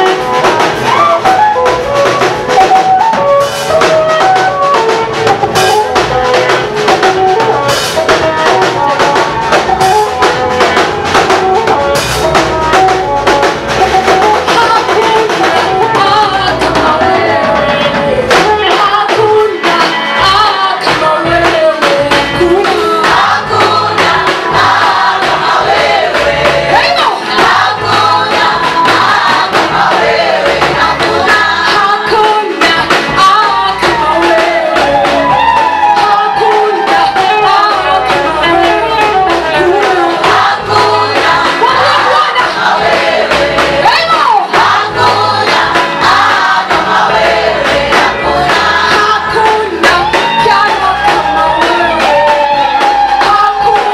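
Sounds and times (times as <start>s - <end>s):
band accompaniment: 0.0s - 53.9s
bass: 0.0s - 53.9s
group of voices singing: 0.0s - 53.9s
steady drum beat: 0.0s - 53.9s.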